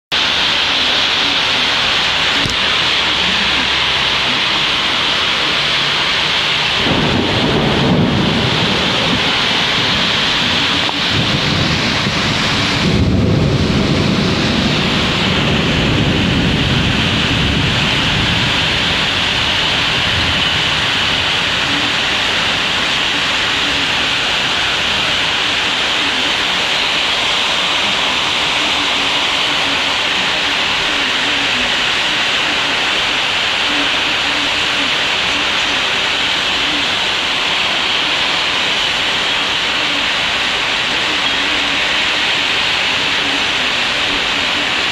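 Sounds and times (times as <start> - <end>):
heavy rain pouring: 0.0 - 44.9
thunder rumbling: 0.1 - 44.9.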